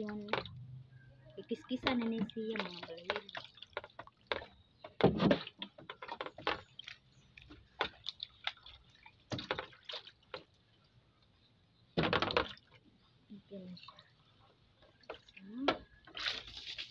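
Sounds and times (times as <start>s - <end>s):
water dripping and splashing: 0.0s - 16.9s.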